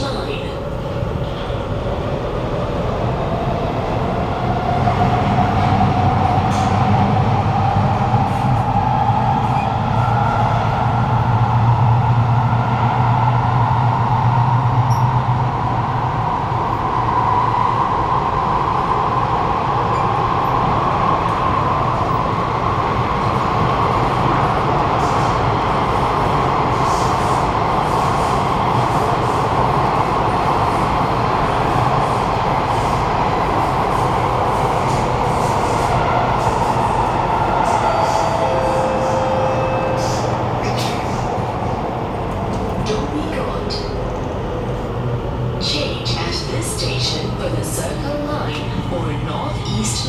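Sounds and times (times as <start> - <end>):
train wheels rumbling: 0.0 - 50.0.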